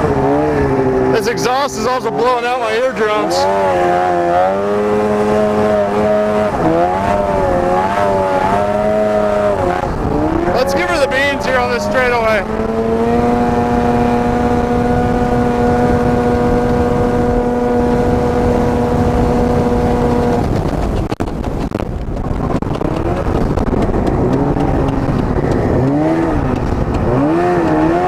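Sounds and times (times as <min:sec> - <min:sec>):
snowmobile engine revving: 0:00.0 - 0:20.6, 0:22.7 - 0:28.0.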